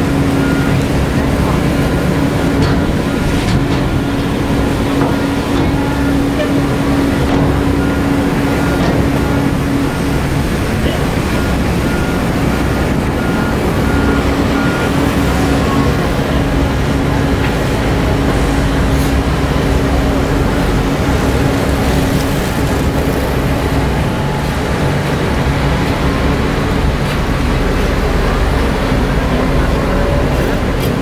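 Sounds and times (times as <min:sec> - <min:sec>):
diesel engines droning: 0:00.0 - 0:31.0.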